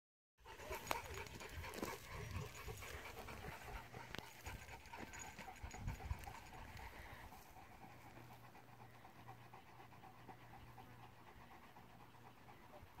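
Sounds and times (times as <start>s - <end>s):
dogs panting: 0.4s - 13.0s.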